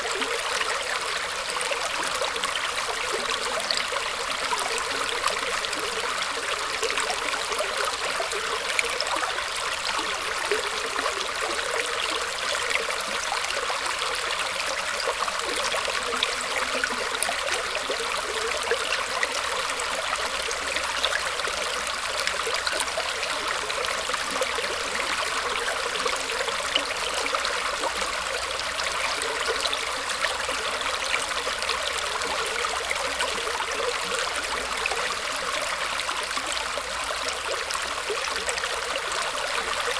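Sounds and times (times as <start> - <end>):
shallow stream babbling: 0.0 - 39.9.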